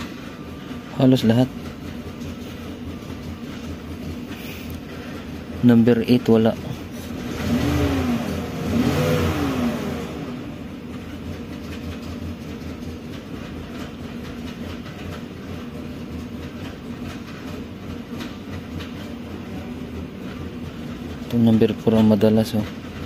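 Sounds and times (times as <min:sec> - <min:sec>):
car engine revving and idling: 0:01.7 - 0:23.0.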